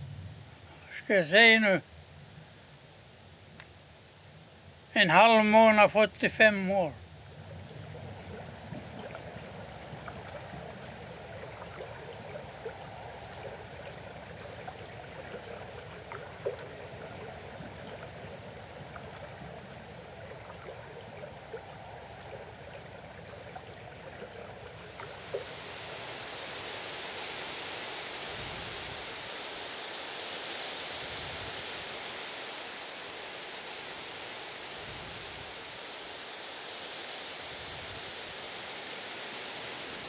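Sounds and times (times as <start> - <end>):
steady hiss: 0.0 - 40.0
shallow stream trickling: 1.7 - 40.0
water drips and splashes: 6.9 - 40.0.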